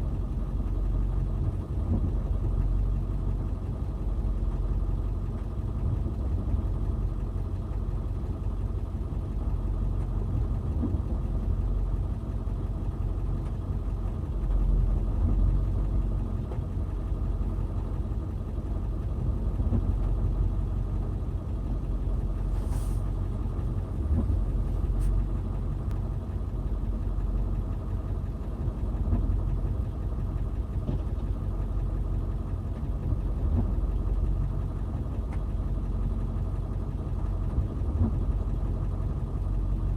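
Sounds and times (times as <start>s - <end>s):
backhoe engine rumbling: 0.0s - 39.9s.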